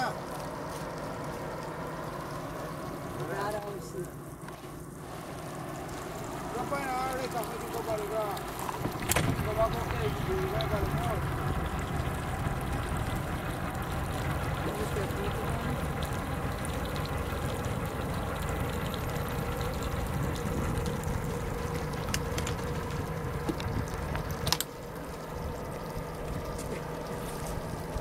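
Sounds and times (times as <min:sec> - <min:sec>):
boat engine rumble: 0:00.0 - 0:28.0
water lapping at hull: 0:00.0 - 0:28.0.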